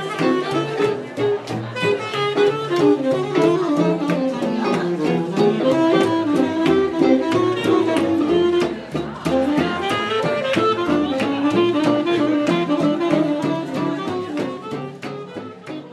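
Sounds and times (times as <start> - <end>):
saxophone melody: 0.0 - 15.9
swing jazz band playing: 0.0 - 15.9
upright bass: 0.0 - 15.9.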